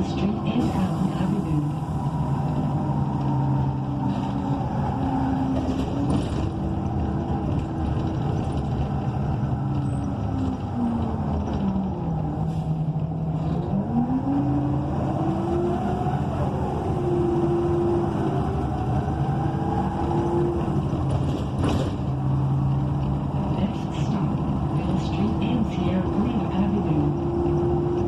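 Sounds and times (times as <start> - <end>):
bus engine accelerating: 0.0 - 28.0.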